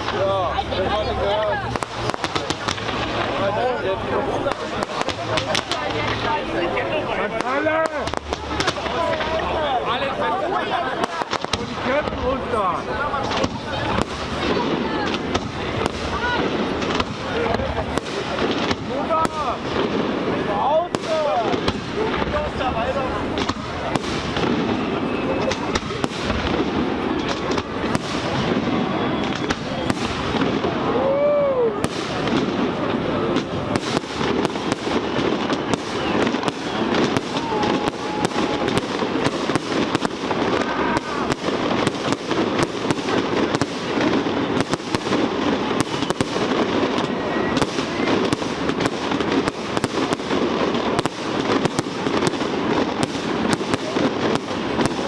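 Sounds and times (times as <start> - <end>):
fireworks bangs and crackles: 0.0 - 55.0
murmur of crowd: 0.0 - 55.0.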